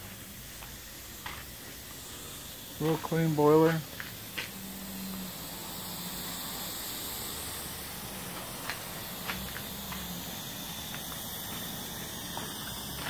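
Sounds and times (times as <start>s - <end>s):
steam hissing from boiler: 0.0s - 13.0s.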